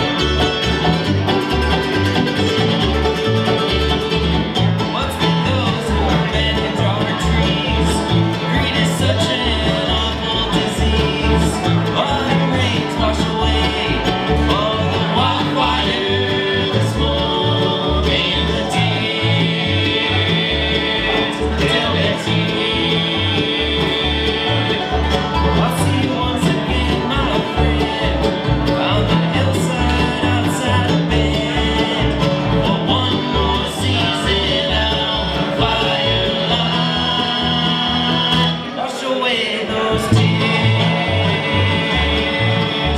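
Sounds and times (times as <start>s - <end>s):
upright bass beat: 0.0s - 38.6s, 40.0s - 42.9s
bluegrass band playing: 0.0s - 42.9s.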